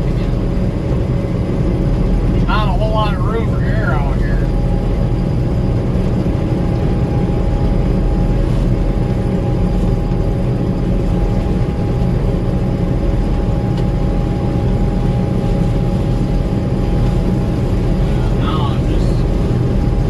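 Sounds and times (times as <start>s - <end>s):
combine harvester engine rumble: 0.0s - 20.0s
steady machinery whine: 0.0s - 20.0s.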